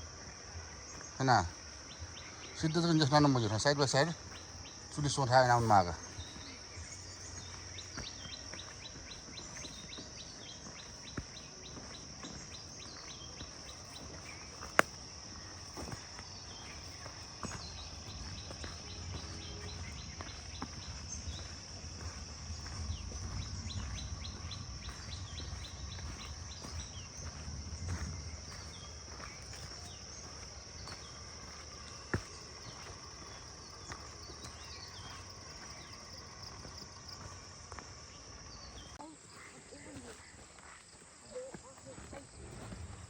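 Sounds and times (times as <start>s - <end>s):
birds chirping: 0.0s - 43.0s
high insect drone: 0.0s - 43.0s.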